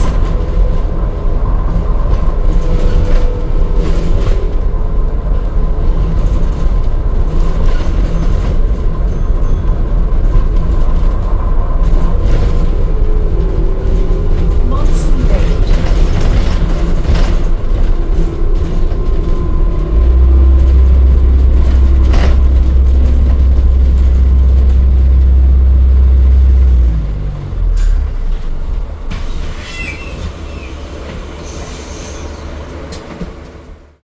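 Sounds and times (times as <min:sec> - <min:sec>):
bus interior low rumble: 0:00.0 - 0:34.0.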